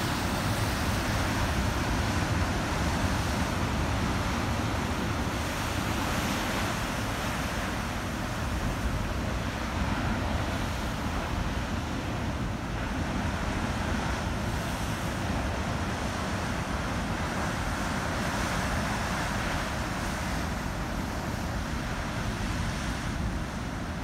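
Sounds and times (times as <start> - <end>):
ocean surf breaking over rocks: 0.0 - 24.0.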